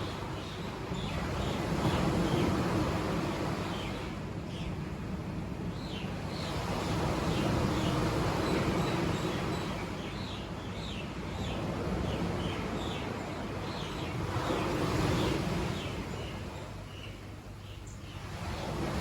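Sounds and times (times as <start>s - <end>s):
sea surf washing ashore: 0.0s - 19.0s.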